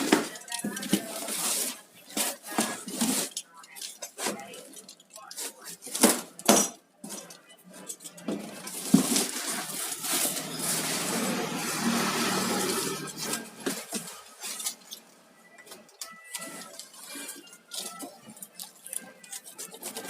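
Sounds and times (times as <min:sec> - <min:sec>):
packing materials rustling: 0:00.0 - 0:06.4, 0:07.2 - 0:20.0.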